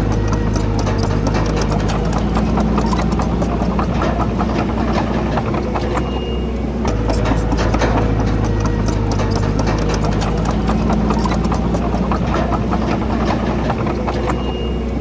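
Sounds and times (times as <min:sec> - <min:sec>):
bulldozer diesel engine running: 0:00.0 - 0:15.0
steel tracks clattering on rock: 0:00.0 - 0:15.0.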